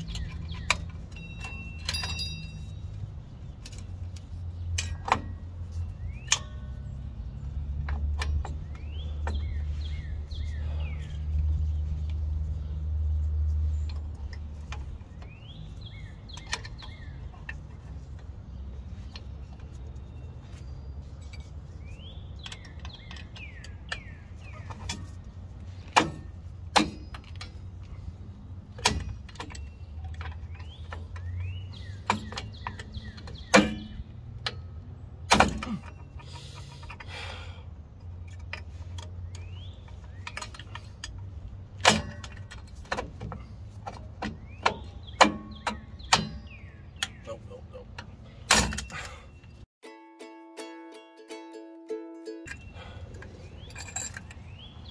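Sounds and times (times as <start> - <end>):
metal brake springs clinking: 0.0 - 12.8, 13.6 - 49.7, 52.4 - 54.9
birds chirping: 0.0 - 49.7, 52.4 - 54.9.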